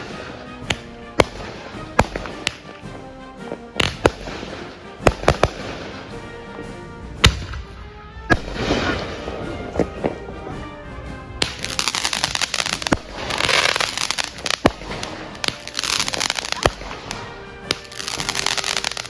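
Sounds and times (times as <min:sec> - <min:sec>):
background music: 0:00.0 - 0:19.0
fireworks bangs: 0:00.0 - 0:19.0
fireworks crackling: 0:00.0 - 0:19.0.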